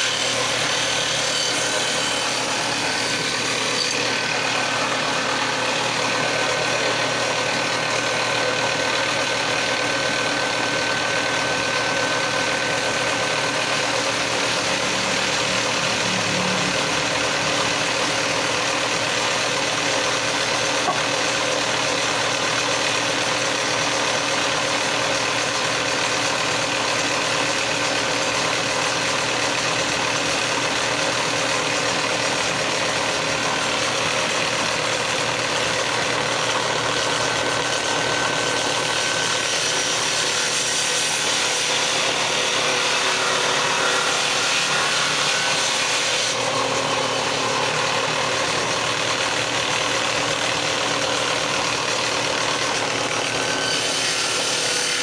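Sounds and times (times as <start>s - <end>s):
power tool cutting wood: 0.0s - 55.0s.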